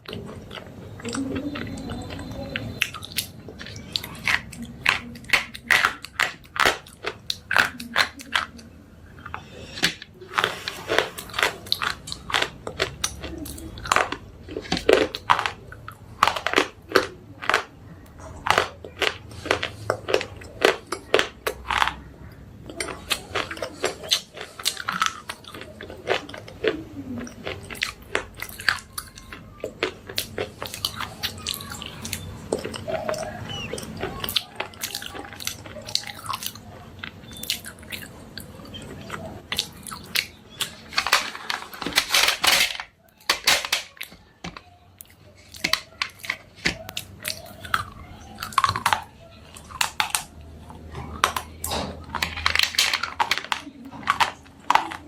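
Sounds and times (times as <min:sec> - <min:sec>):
person chewing with dry crunches: 0:00.0 - 0:55.0.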